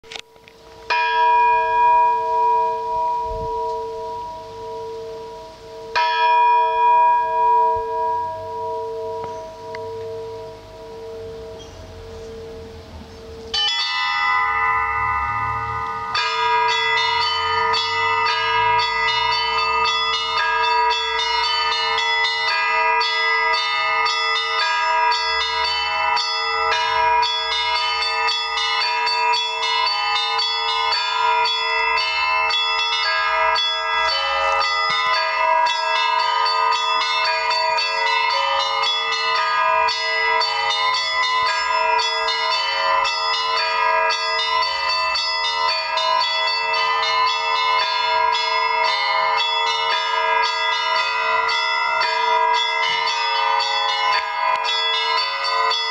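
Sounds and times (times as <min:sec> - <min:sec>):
large church bells ringing: 0:00.1 - 0:55.9
small high bells striking: 0:00.9 - 0:55.9.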